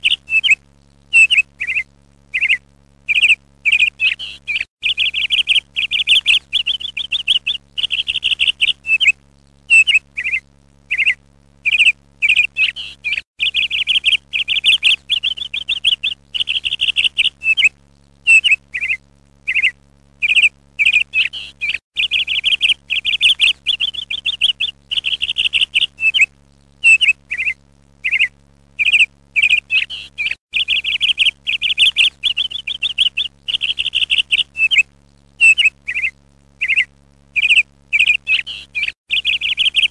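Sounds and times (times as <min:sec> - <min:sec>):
songbird chirping: 0:00.0 - 0:17.7, 0:18.3 - 0:39.9
faint low hum: 0:00.0 - 0:39.9.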